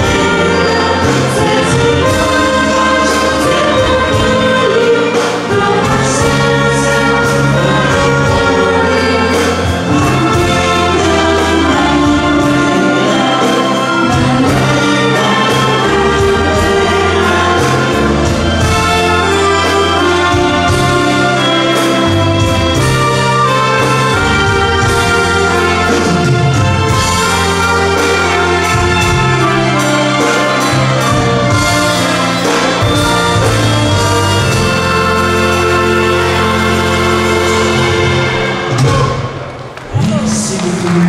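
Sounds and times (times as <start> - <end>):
accordions: 0.0 - 39.0
steady bass line: 0.0 - 39.4
violin: 0.0 - 41.0.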